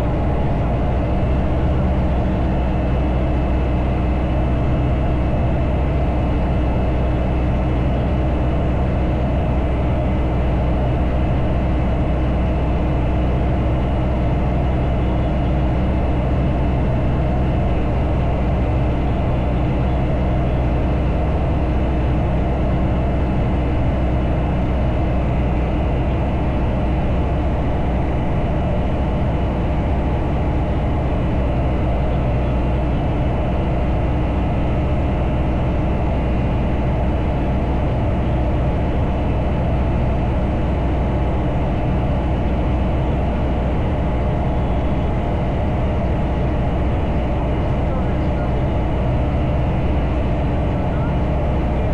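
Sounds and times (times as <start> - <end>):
light aircraft engine droning: 0.0 - 51.9.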